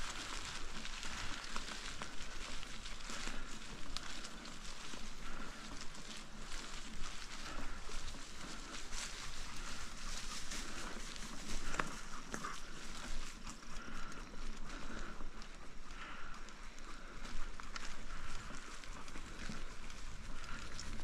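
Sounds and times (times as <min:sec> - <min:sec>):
bicycle tyres on dirt trail: 0:00.0 - 0:21.0
dry leaves crackling: 0:00.0 - 0:21.0.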